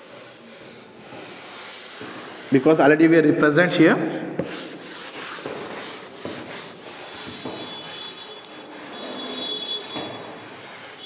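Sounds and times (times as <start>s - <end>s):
duster rubbing a chalkboard: 0.0s - 2.9s, 4.4s - 11.0s.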